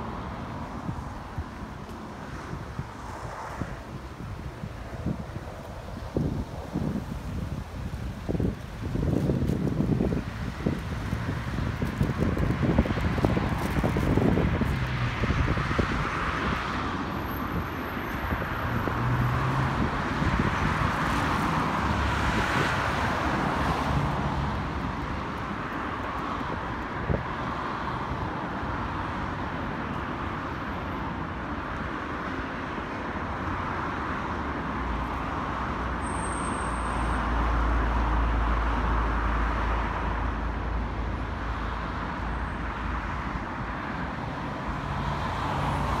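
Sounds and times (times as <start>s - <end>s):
cars passing on street: 0.0s - 46.0s.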